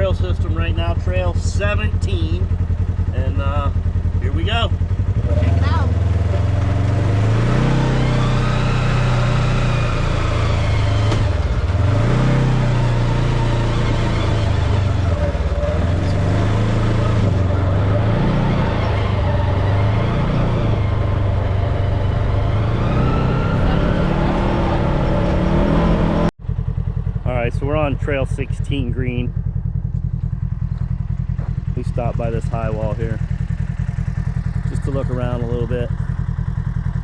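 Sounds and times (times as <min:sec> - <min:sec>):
off-road vehicle engine revving: 0:00.0 - 0:37.0.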